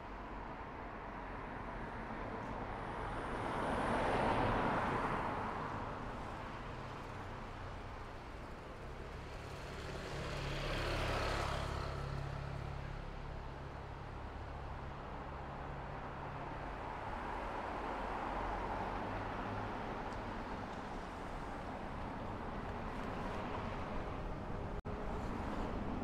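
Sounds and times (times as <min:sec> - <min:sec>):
vehicles passing: 0:01.6 - 0:26.0.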